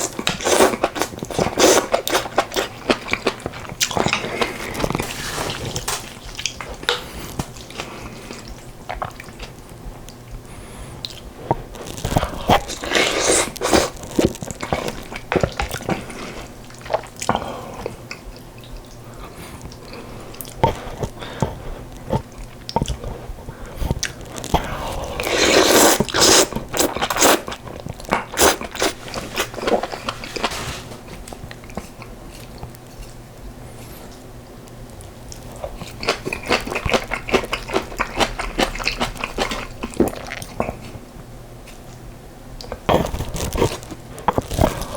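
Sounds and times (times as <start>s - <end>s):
crunchy chewing: 0.0s - 42.0s, 42.6s - 44.9s.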